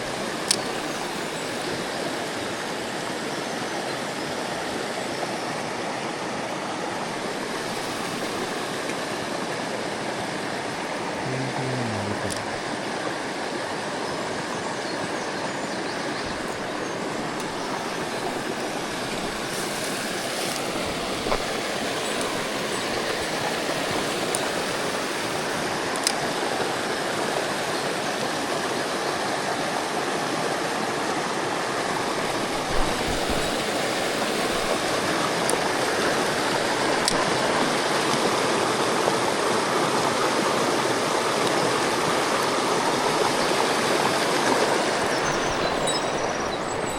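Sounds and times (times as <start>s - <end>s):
mountain stream rushing: 0.0s - 46.9s.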